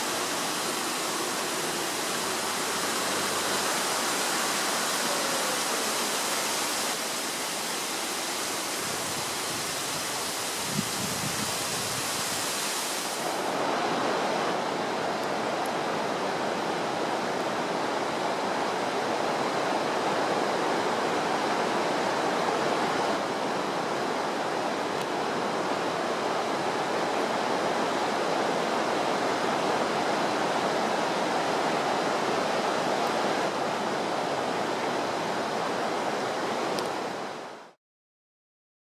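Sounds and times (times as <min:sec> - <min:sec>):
waterfall rushing: 0:00.0 - 0:37.8.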